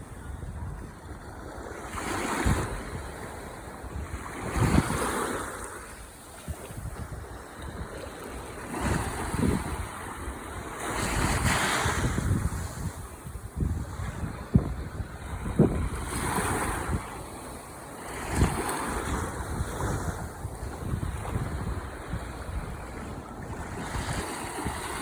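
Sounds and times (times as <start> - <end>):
wind buffeting microphone: 0.0 - 25.0
ocean waves breaking: 1.2 - 25.0.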